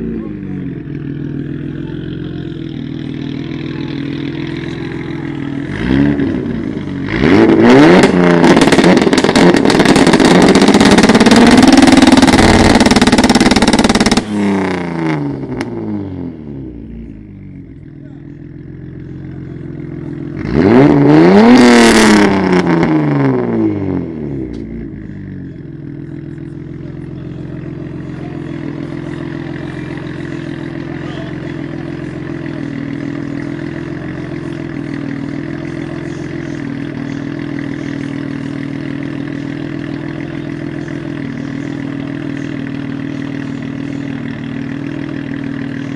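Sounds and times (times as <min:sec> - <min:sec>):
car engine revving and idling: 0:00.0 - 0:45.9.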